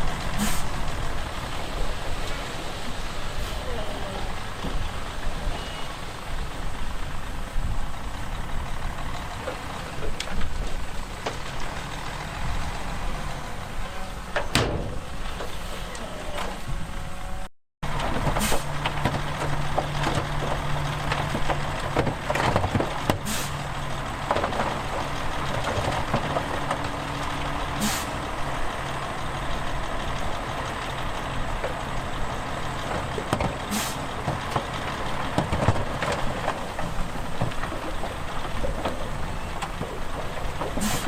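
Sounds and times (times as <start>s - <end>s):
diesel machinery running: 0.0s - 41.0s.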